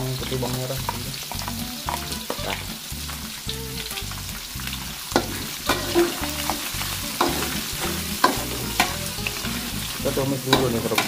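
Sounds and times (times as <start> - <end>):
food sizzling in hot oil: 0.0 - 11.0
metal spatula scraping wok: 1.3 - 11.0.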